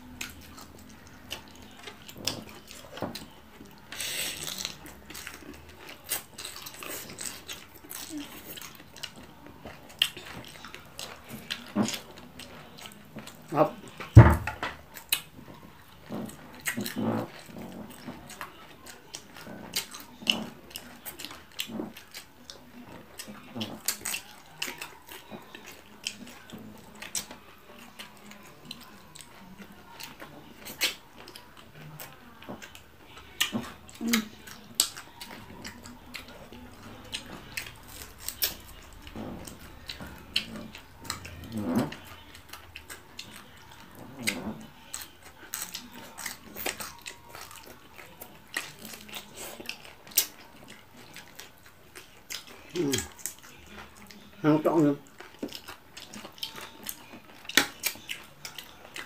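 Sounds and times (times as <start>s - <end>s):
chewing with lip smacks and crunches: 0.0s - 59.0s.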